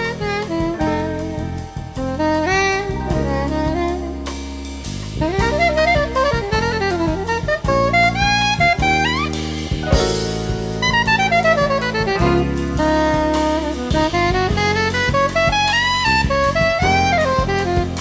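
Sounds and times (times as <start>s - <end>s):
bass: 0.0s - 18.0s
drum kit: 0.0s - 18.0s
saxophone melody: 0.0s - 18.0s.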